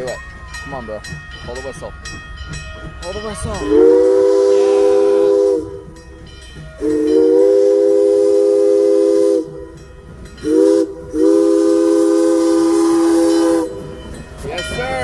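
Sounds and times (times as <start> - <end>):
steam locomotive chime whistle: 0.0 - 15.0.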